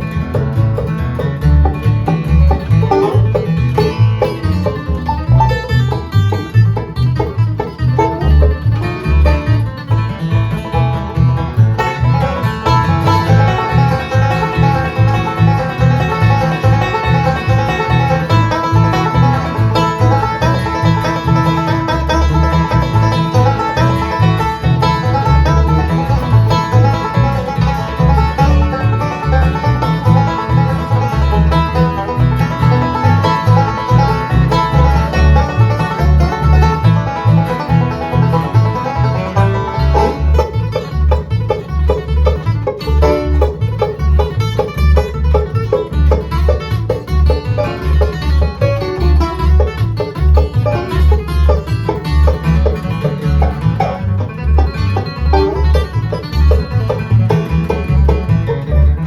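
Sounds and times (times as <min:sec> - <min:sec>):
acoustic guitar: 0:00.0 - 0:59.0
banjo picking: 0:00.0 - 0:59.0.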